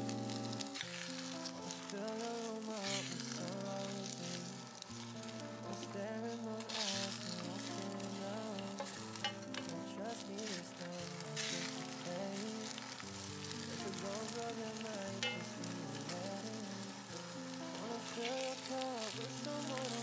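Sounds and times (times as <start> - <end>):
background music: 0.0 - 20.0
pork sizzling in a frying pan: 0.0 - 20.0.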